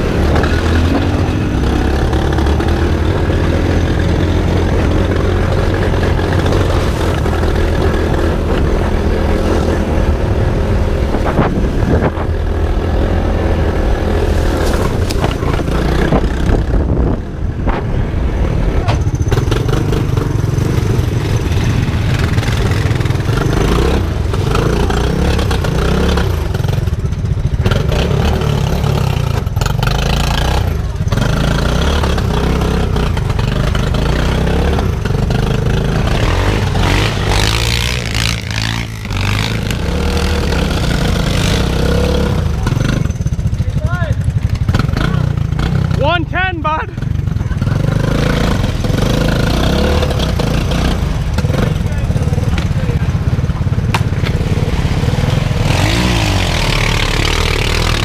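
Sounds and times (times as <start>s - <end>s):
small vehicle engine revving: 0.0s - 17.9s, 18.5s - 46.2s, 46.8s - 58.0s.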